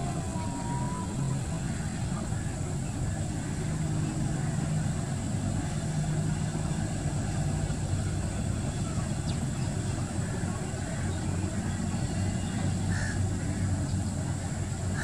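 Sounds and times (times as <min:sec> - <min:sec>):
engine hum and rumble: 0:00.0 - 0:15.0.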